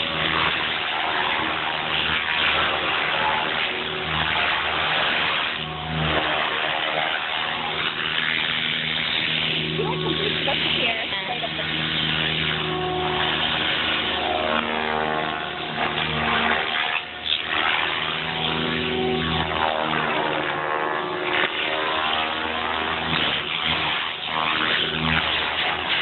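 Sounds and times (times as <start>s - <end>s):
rc helicopter rotor and motor whine: 0.0s - 26.0s.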